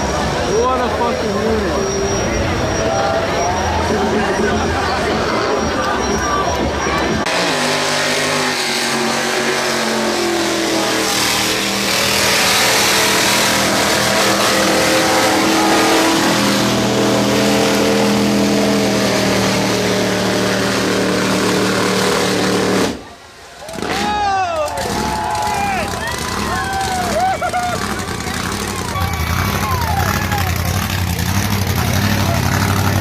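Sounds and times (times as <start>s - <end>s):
off-road vehicle engine revving hard: 0.0s - 23.1s, 23.7s - 33.0s.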